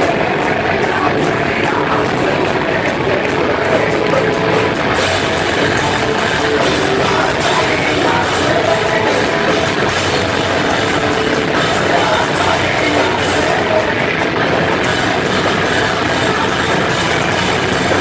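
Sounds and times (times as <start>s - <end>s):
heavy rock music: 0.0s - 18.0s.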